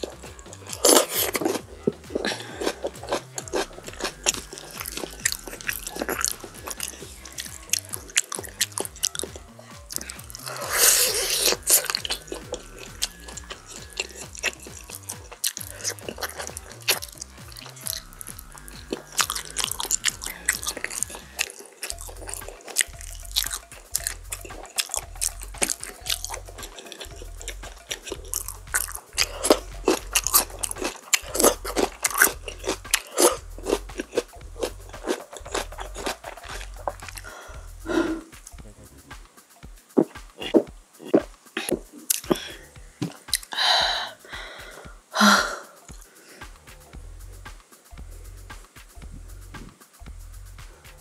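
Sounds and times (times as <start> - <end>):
crunchy chicken being chewed: 0.0 - 38.5, 39.9 - 43.6, 45.9 - 46.8.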